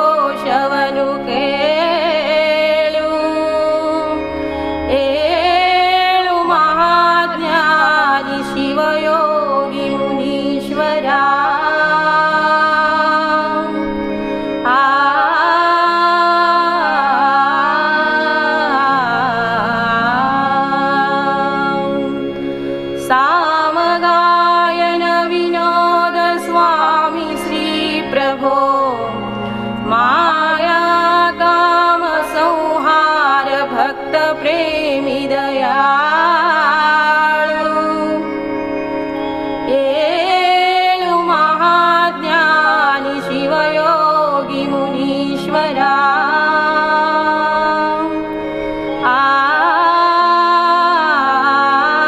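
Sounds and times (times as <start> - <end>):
person singing a devotional hymn: 0.0 - 52.0
steady held drone: 0.0 - 52.0.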